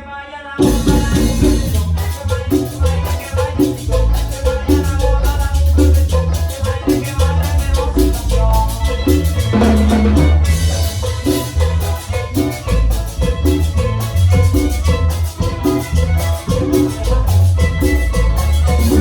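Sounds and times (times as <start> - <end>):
live band music with violins: 0.6 - 19.0.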